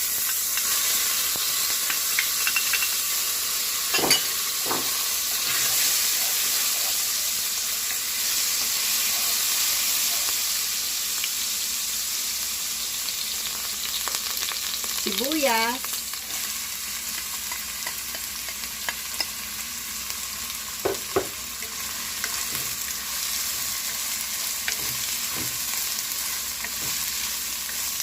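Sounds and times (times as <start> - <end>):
garlic sizzling in hot oil: 0.0 - 28.0.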